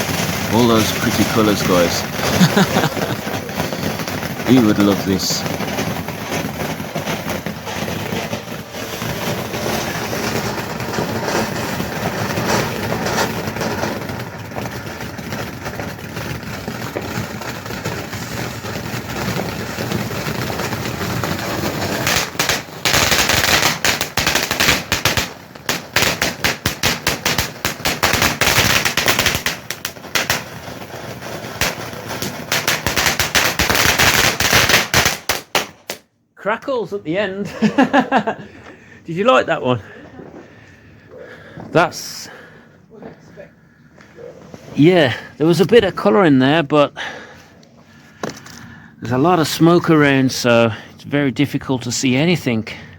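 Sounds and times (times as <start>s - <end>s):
firework bangs and crackling: 0.0s - 52.9s.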